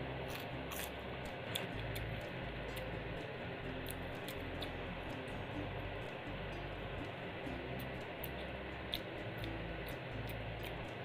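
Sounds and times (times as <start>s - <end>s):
chewing and wet eating noises: 0.0s - 11.0s
steady background hiss: 0.0s - 11.0s.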